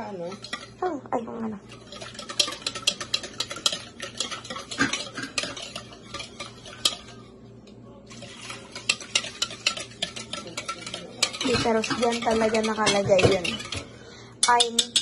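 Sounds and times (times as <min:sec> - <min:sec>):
whisk beating in bowl: 0:00.0 - 0:07.4, 0:08.0 - 0:15.0.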